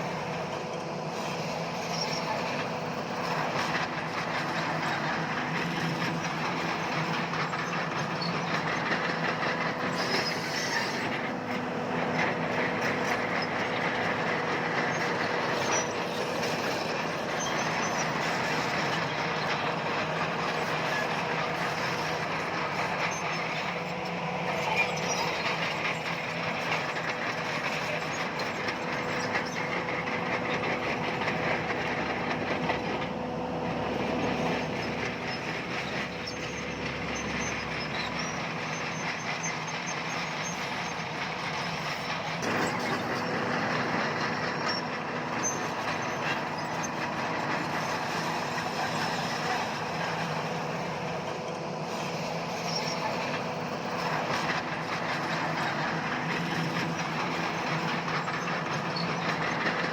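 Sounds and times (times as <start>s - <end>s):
bulldozer diesel engine running: 0.0s - 59.9s
steel tracks clattering: 0.0s - 59.9s.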